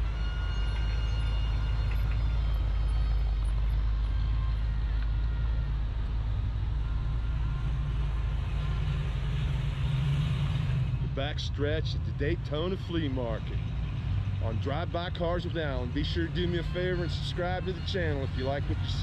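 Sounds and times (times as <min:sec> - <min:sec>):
outdoor background noise: 0:00.0 - 0:19.0
vehicle engine rumbling: 0:00.0 - 0:19.0.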